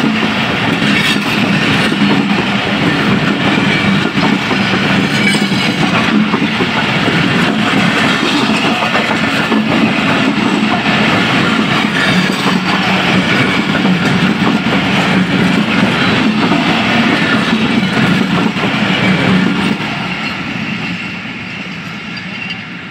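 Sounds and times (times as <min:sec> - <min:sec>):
train wheels clattering over rail joints: 0:00.0 - 0:20.2.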